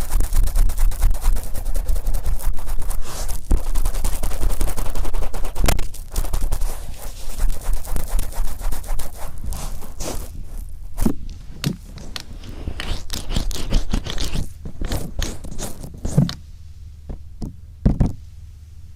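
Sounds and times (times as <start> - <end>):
cotton swab scraping microphone: 0.0 - 16.4.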